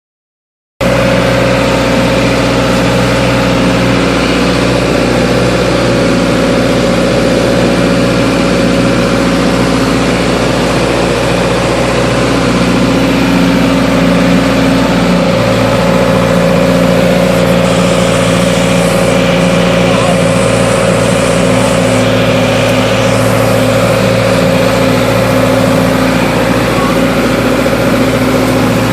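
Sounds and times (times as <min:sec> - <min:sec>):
backhoe diesel engine running: 0:00.8 - 0:28.9.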